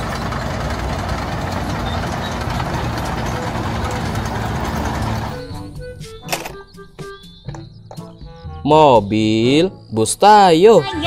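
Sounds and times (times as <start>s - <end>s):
tank engine and tracks: 0.0s - 9.1s.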